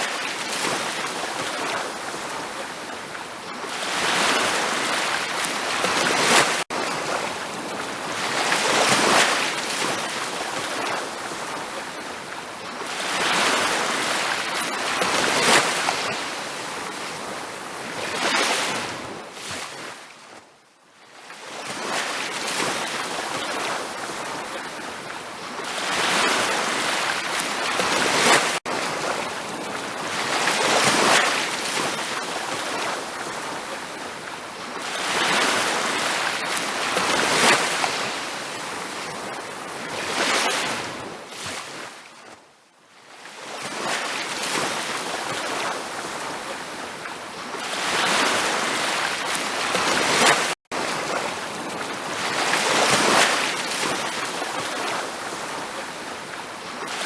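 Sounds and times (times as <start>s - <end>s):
ocean waves breaking on a beach: 0.0s - 57.0s.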